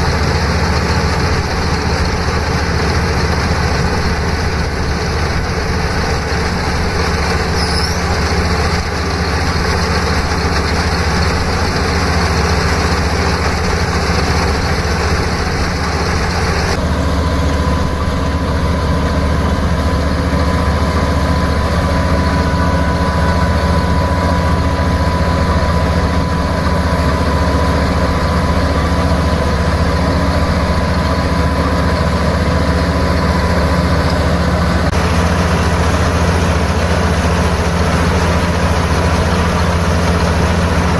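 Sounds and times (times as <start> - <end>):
harvester engine droning: 0.0 - 40.9.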